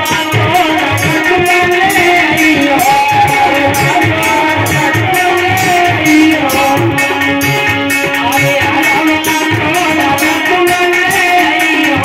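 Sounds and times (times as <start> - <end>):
drum beat with percussion: 0.0 - 12.0
person singing over loudspeaker: 0.0 - 12.0.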